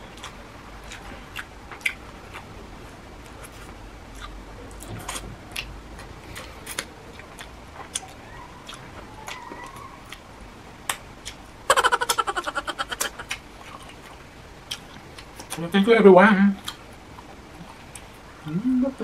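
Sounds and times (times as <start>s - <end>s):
person chewing food: 0.0s - 10.2s, 10.8s - 15.6s, 16.6s - 18.2s.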